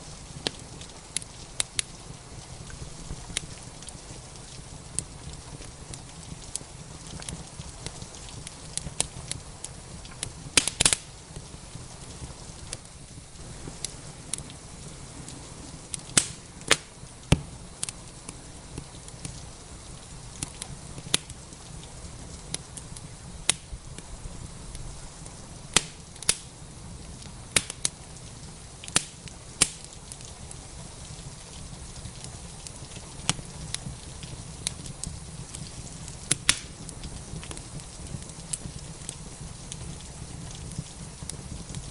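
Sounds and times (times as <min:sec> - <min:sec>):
rain hissing: 0:00.0 - 0:41.9
wood fire crackling: 0:00.0 - 0:41.9.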